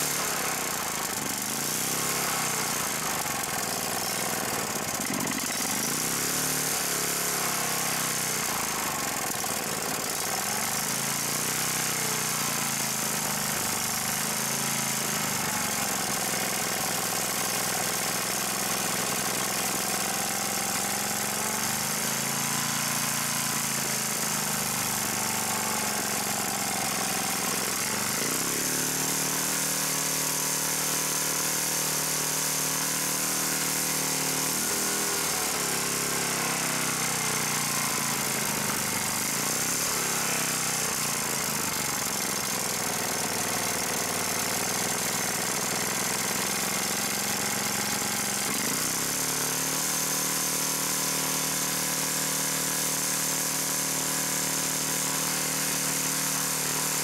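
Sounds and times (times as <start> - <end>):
small engine revving: 0.0 - 57.0.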